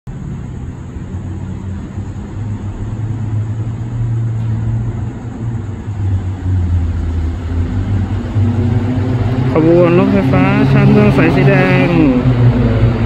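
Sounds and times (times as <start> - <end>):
electric train hum and rumble: 0.1 - 13.0.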